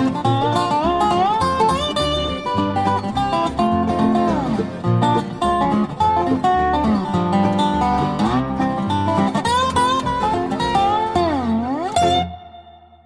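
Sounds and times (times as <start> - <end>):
banjo: 0.0 - 12.8
acoustic guitar: 0.0 - 13.0
bass line: 0.0 - 13.0
resonator guitar sliding lead: 0.0 - 13.0.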